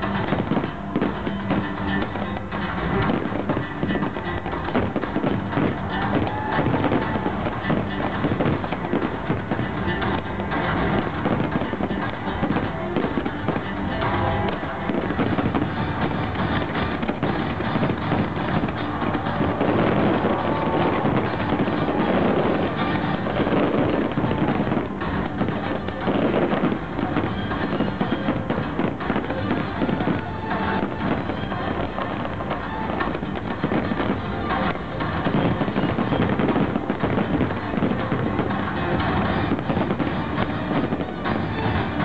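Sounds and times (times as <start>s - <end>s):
fireworks bangs and crackles: 0.0s - 42.0s
wind on microphone: 0.0s - 42.0s.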